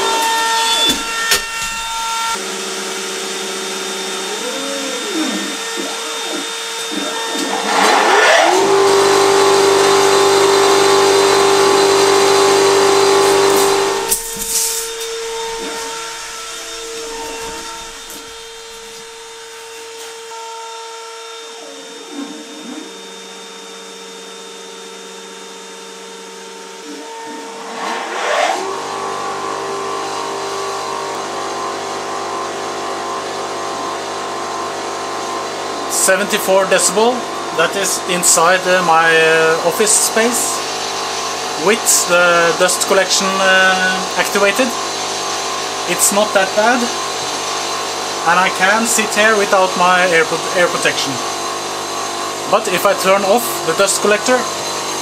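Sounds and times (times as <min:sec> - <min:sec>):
dust collector and router drone: 0:00.0 - 0:55.0.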